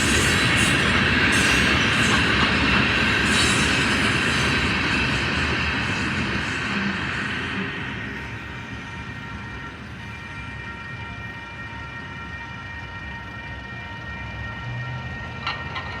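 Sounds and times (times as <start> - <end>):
train passing: 0.0 - 16.0.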